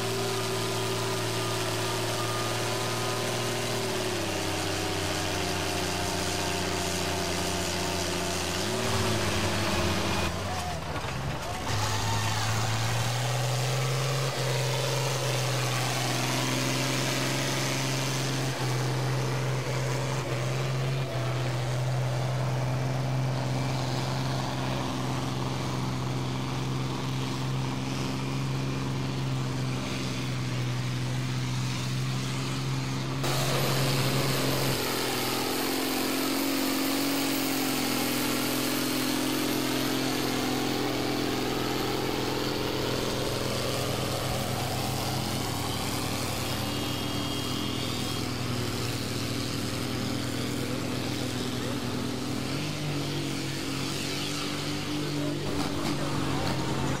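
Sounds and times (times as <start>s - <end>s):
tractor diesel engine running hard: 0.0s - 57.0s
tractor engine at lower revs: 0.0s - 57.0s.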